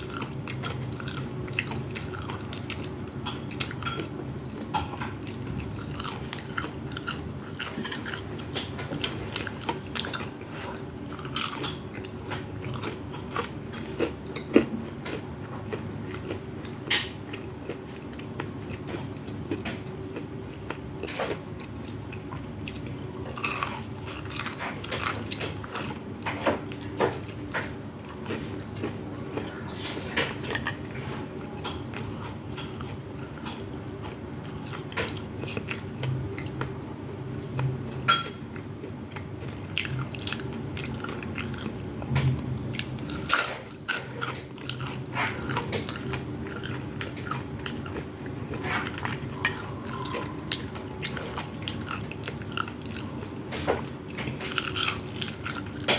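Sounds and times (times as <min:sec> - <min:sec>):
chewing with wet mouth noises: 0:00.0 - 0:55.9.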